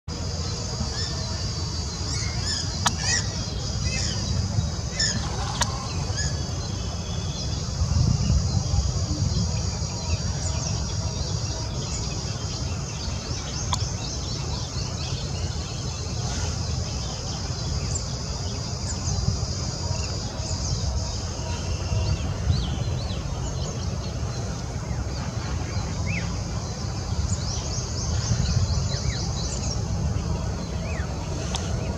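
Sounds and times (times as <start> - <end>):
steady low rumble: 0.1 - 31.9
small birds chirping: 0.3 - 31.9.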